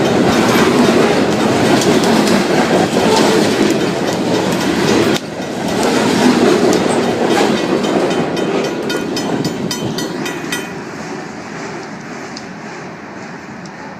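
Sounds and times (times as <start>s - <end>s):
train cars rolling past: 0.0s - 13.9s
wheels clicking over rail joints: 0.0s - 13.9s.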